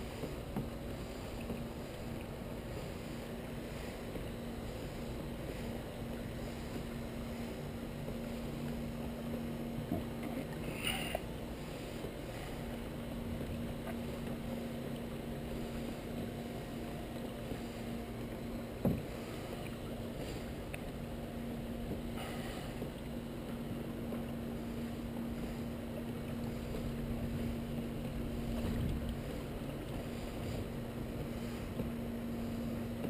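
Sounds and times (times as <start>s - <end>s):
low even hum: 0.0s - 33.0s
water and kayak hull noise: 0.0s - 33.0s.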